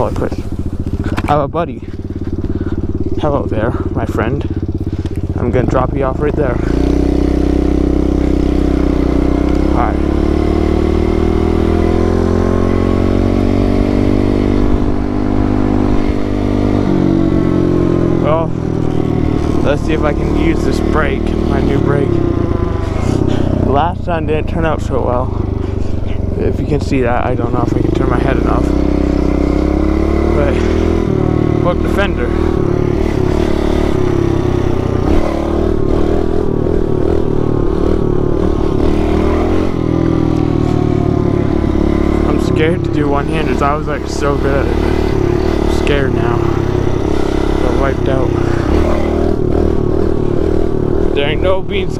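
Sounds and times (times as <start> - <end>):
motorbike engine under throttle: 0.0 - 51.9.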